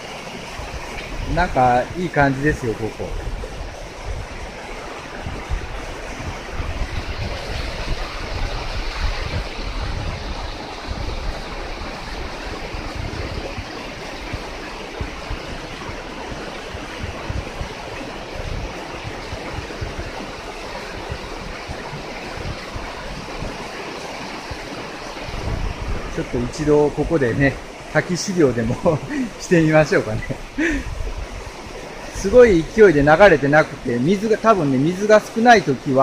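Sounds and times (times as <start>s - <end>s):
waterfall splashing onto rocks: 0.0s - 36.0s.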